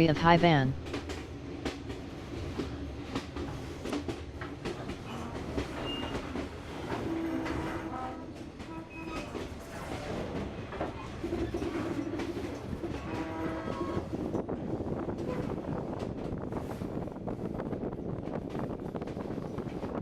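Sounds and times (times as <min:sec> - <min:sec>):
train rumbling: 0:00.0 - 0:20.0
train wheels clacking on rails: 0:00.8 - 0:17.0.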